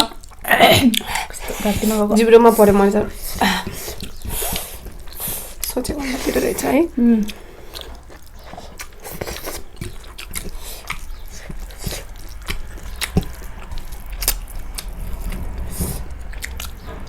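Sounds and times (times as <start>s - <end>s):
person chewing: 0.0s - 17.0s.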